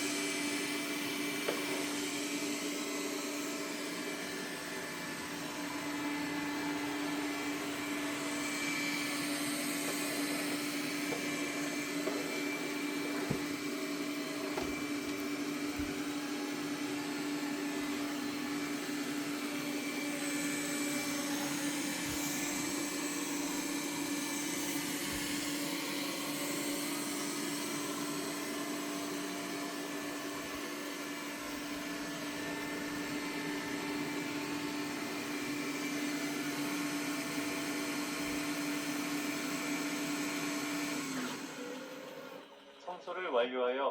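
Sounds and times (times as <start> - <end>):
robot vacuum motor whirring: 0.2 - 42.5.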